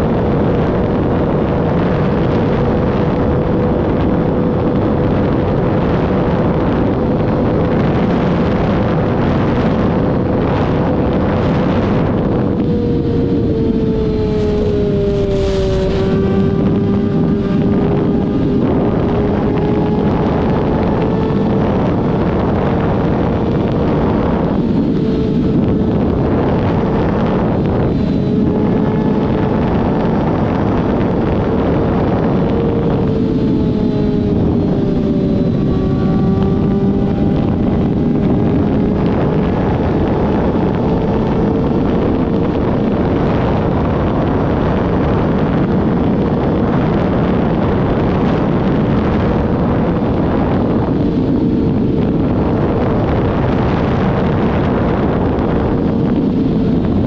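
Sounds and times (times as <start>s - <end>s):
car engines running: 0.0s - 57.0s
wind buffeting microphone: 0.0s - 57.0s.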